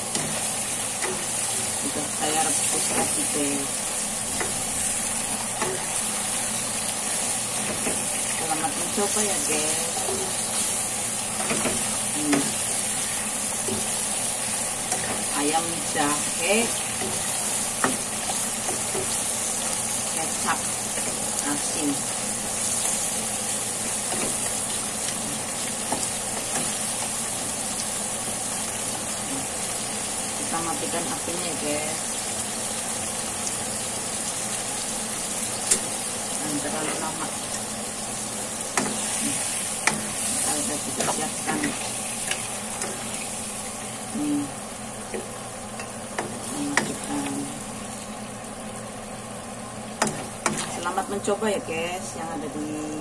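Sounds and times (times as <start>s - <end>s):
food sizzling in a wok: 0.0s - 53.0s.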